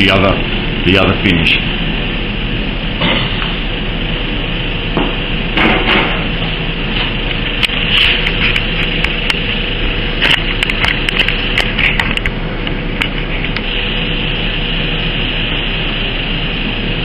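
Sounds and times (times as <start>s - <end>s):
workshop hiss and hum: 0.0s - 17.0s.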